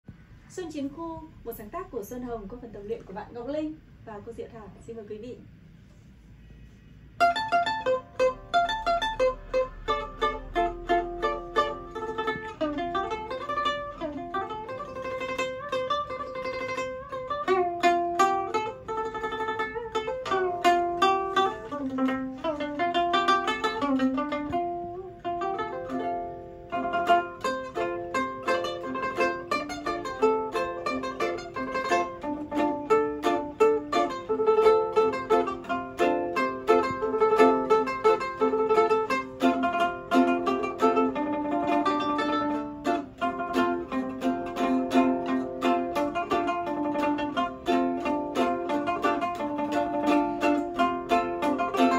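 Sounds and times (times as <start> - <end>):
plucked lutes playing melody: 7.1 - 51.9.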